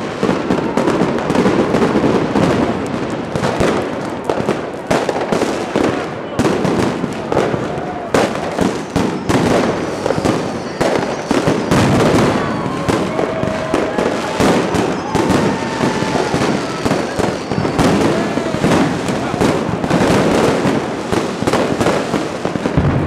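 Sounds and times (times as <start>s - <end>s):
fireworks and firecrackers bangs: 0.0s - 23.0s.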